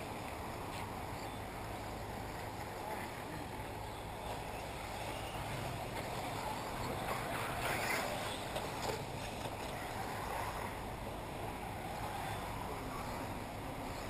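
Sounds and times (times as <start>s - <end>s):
rc cars rushing on dirt track: 0.0s - 14.0s.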